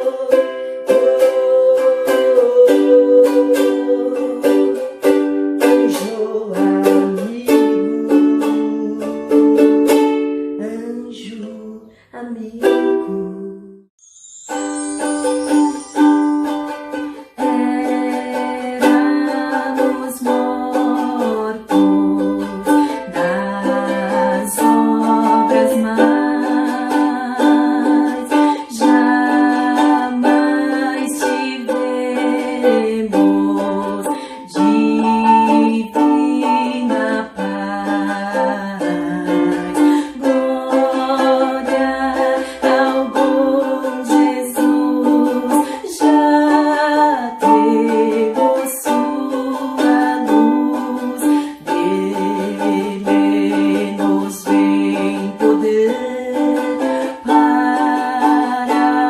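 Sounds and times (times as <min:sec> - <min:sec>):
ukulele strumming chords: 0:00.0 - 0:59.0.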